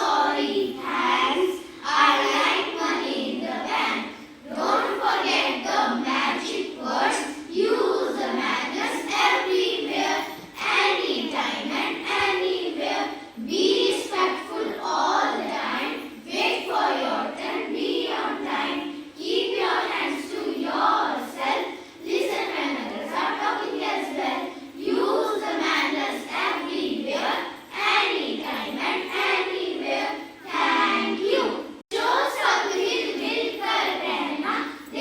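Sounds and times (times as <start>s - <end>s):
children singing in unison: 0.0s - 35.0s.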